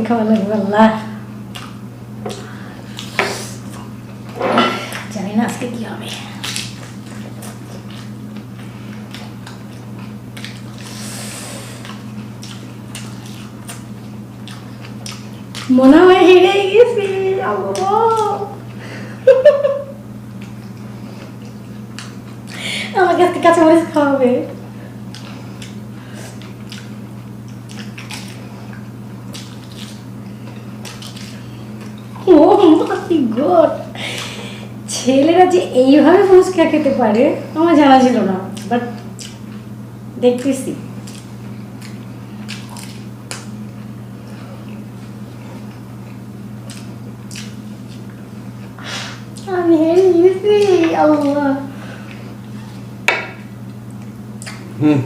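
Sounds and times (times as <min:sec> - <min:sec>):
low steady hum: 0:00.0 - 0:55.0
wet chewing: 0:01.4 - 0:34.8, 0:37.7 - 0:54.8.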